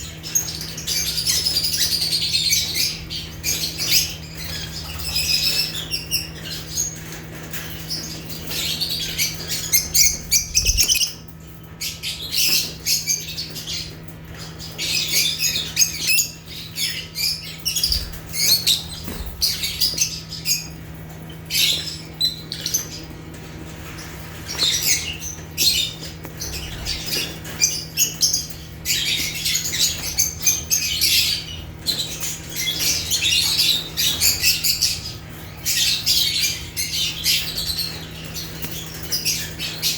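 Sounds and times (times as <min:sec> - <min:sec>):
lovebirds chattering and squawking: 0:00.0 - 0:39.9.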